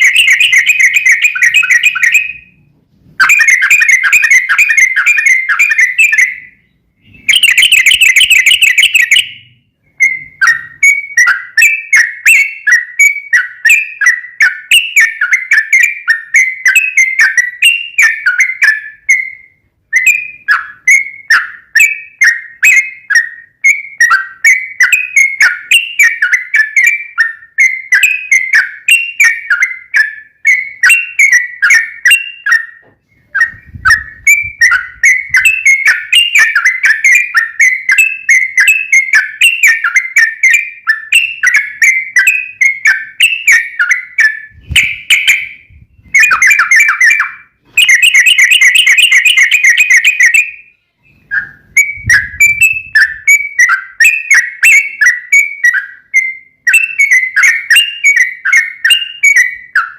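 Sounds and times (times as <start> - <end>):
bird singing chattering whistles: 0.0 - 2.6, 3.2 - 59.9.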